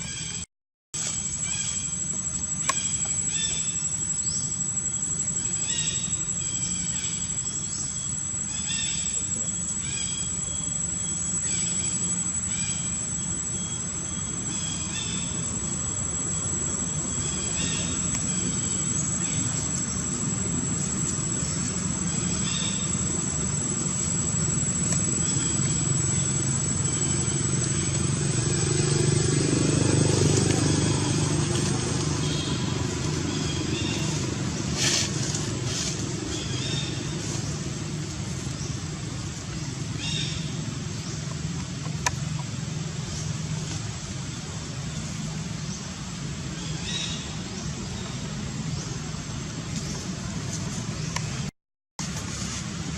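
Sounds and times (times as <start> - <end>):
insect whine: 0.0 - 0.4, 1.0 - 51.5
steady low rumble: 1.1 - 51.5.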